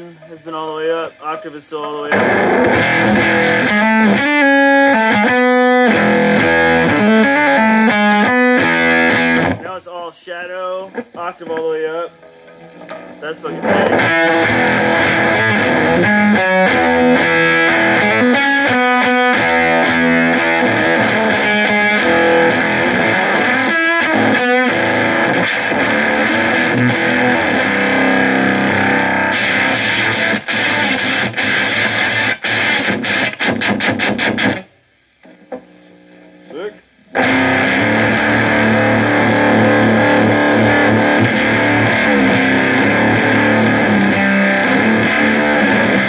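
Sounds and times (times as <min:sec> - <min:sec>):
distorted fuzz electric guitar: 0:00.0 - 0:46.0.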